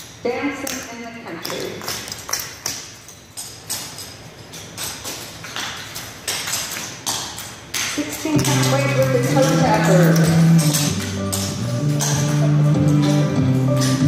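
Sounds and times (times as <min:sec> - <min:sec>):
tap shoes on wooden stage: 0:00.6 - 0:14.0.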